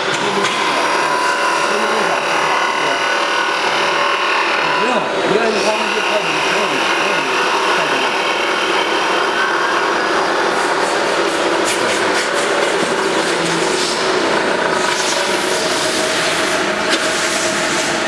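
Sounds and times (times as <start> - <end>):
cutter scraping wood: 0.0 - 18.0
wood lathe hum: 0.0 - 18.0.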